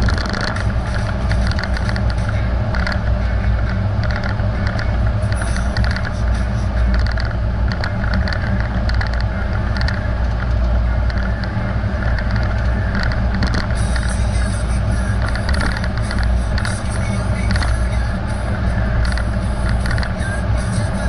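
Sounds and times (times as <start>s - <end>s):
road and engine rumble: 0.0s - 21.0s.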